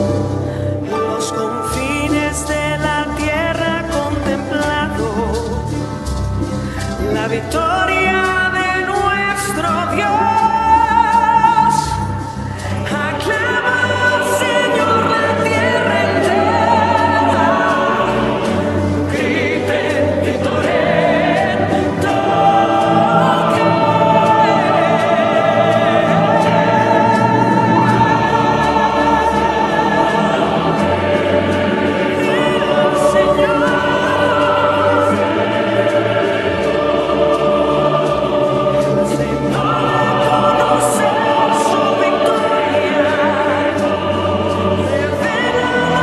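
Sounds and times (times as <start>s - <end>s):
choir singing sacred song: 0.0s - 1.2s, 9.6s - 46.0s
instrumental accompaniment: 0.0s - 46.0s.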